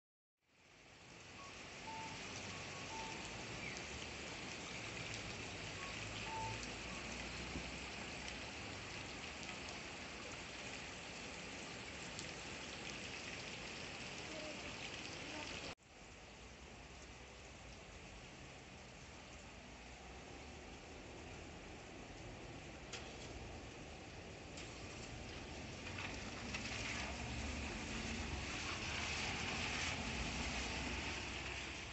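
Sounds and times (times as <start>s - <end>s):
rain falling on wet street: 0.5s - 31.9s.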